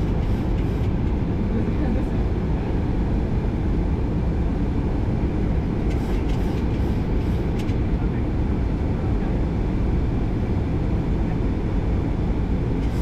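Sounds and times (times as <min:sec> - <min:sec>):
airflow and engine rumble: 0:00.0 - 0:13.0.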